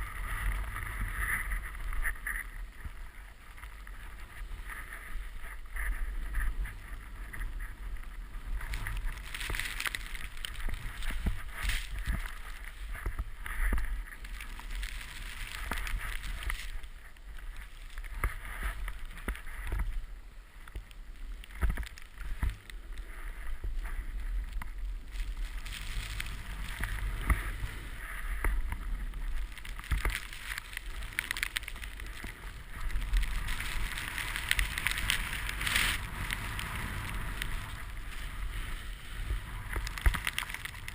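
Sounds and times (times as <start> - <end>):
snowboard sliding through snow: 0.0 - 40.9.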